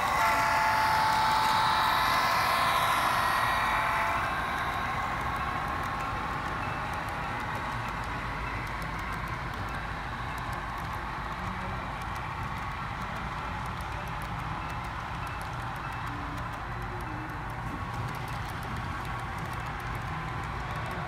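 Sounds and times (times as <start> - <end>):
model freight cars rolling: 0.0 - 21.0
model locomotive tone chord: 0.0 - 21.0.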